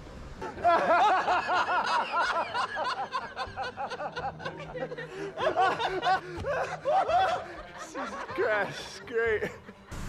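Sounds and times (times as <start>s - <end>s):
man laughing hard: 0.6s - 9.8s.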